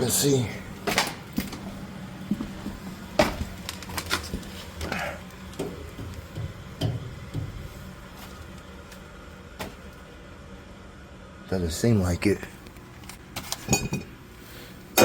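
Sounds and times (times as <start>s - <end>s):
boiler burner humming: 0.0s - 15.0s.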